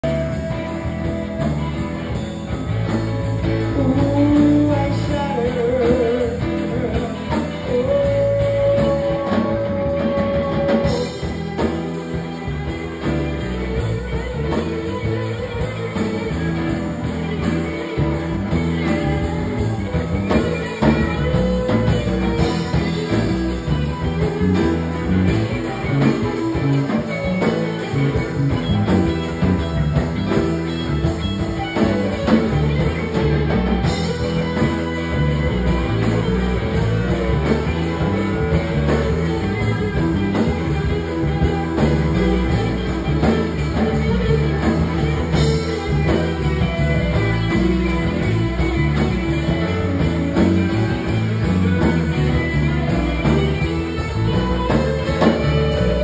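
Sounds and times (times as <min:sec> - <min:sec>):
electric guitar held notes: 0:00.0 - 0:56.0
rock band playing: 0:00.0 - 0:56.0.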